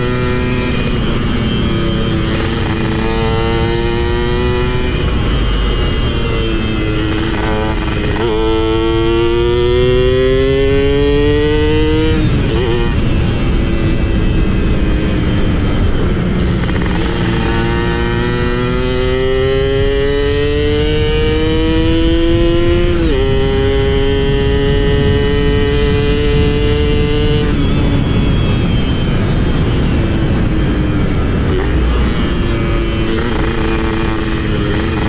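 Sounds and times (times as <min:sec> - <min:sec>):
two-stroke motorcycle accelerating: 0:00.0 - 0:35.0.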